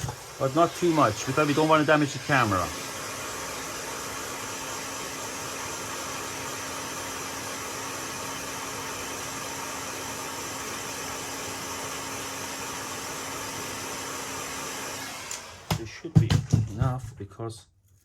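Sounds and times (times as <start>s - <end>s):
heat gun blowing air: 0.0s - 15.8s.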